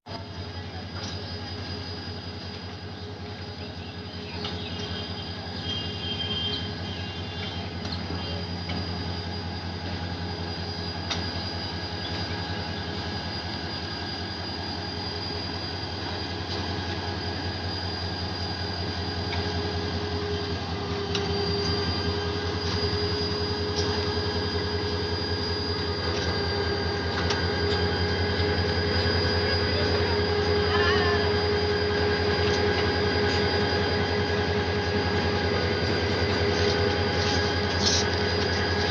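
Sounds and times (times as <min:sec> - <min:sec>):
train rumble: 0:00.0 - 0:38.9
train wheels squealing: 0:00.1 - 0:38.9.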